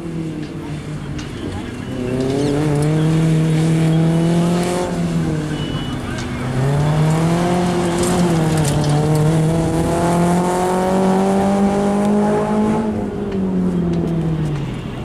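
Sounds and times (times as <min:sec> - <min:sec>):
rally car engine at high revs: 0:00.0 - 0:14.8.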